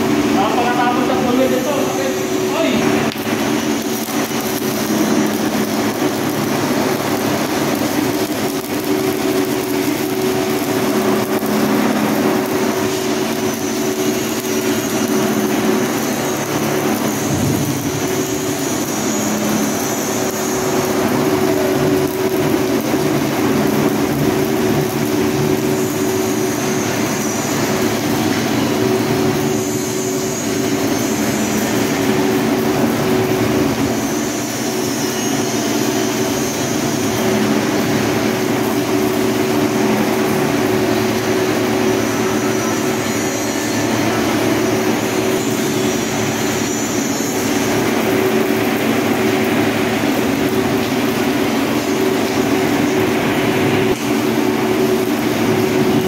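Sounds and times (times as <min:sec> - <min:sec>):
loud machine hum: 0:00.0 - 0:56.0
welding arc crackling and sizzling: 0:00.0 - 0:56.0.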